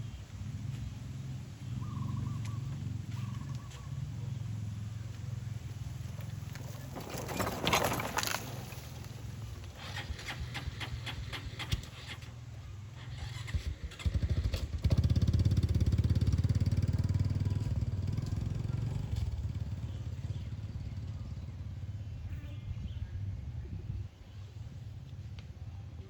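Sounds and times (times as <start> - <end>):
small engine running: 0.0 - 22.6.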